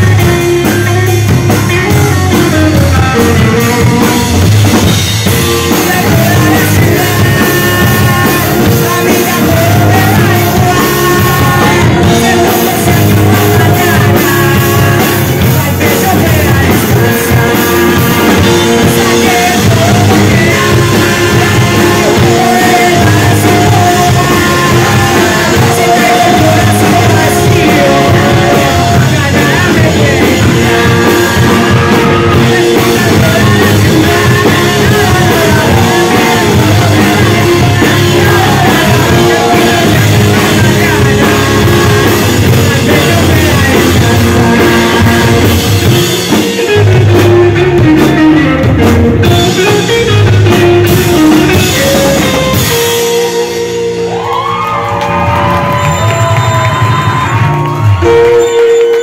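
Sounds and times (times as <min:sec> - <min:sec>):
man singing lead vocal: 0:00.0 - 0:53.6
drum kit: 0:00.0 - 0:59.0
electric bass: 0:00.0 - 0:59.0
electric guitar: 0:00.0 - 0:59.0.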